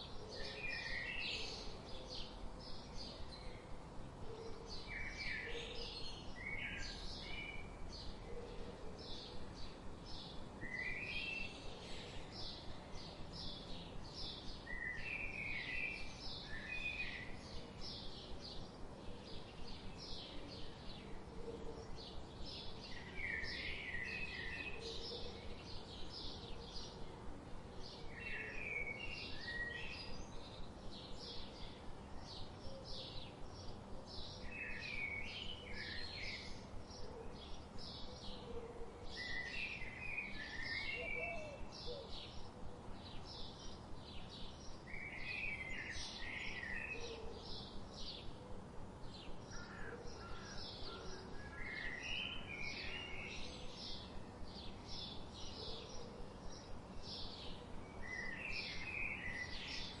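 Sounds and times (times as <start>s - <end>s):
faint steady background hiss: 0.0s - 60.0s.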